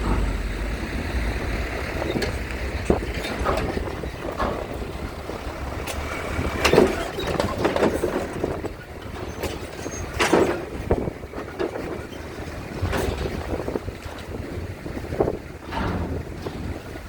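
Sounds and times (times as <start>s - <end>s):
steady low rumble: 0.0s - 7.0s, 8.2s - 17.0s
gusty wind buffeting microphone: 0.0s - 17.0s.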